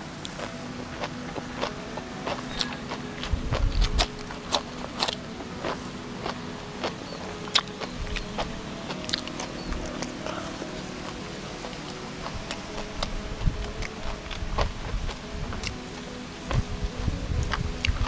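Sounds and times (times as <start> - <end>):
chewing crunchy food: 0.2 - 15.8.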